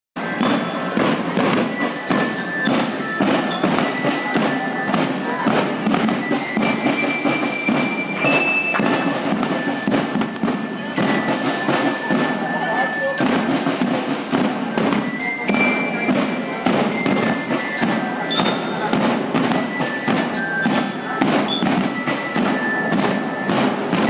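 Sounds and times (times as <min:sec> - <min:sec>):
bell lyres ringing: 0:00.2 - 0:24.0
drums beating march rhythm: 0:00.2 - 0:24.0.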